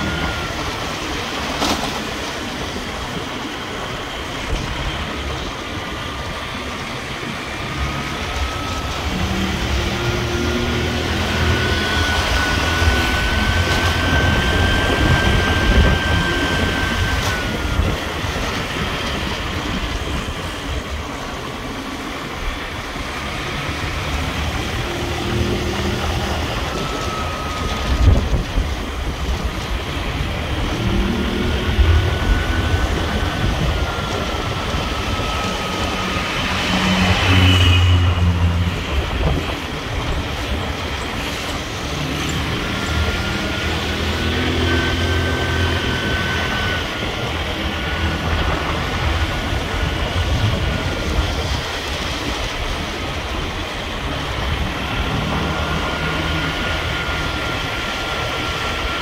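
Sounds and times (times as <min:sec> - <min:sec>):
thin whine: 0:00.0 - 0:59.0
vehicle engine and road noise: 0:00.0 - 0:59.0.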